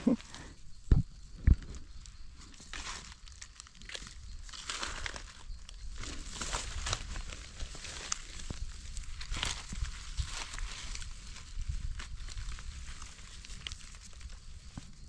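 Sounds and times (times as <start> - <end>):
dry leaves crackling and rustling: 2.4 - 15.0.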